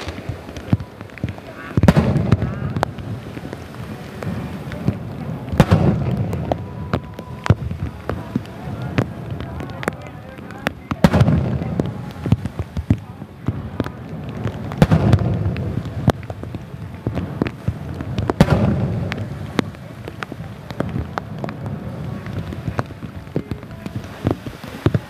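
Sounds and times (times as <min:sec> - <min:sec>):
firework booms: 0:00.0 - 0:25.0
firework crackles and pops: 0:00.0 - 0:25.0.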